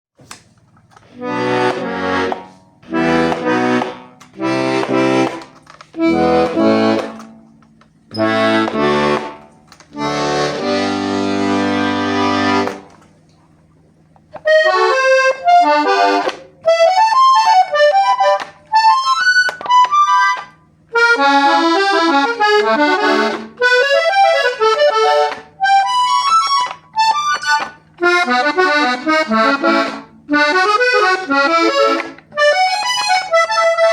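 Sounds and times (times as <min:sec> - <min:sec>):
accordion chords and melodic runs: 0:00.2 - 0:33.9.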